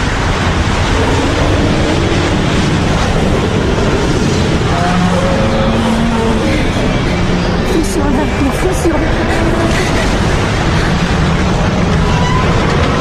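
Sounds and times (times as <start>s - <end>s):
loud rushing wind: 0.0s - 13.0s.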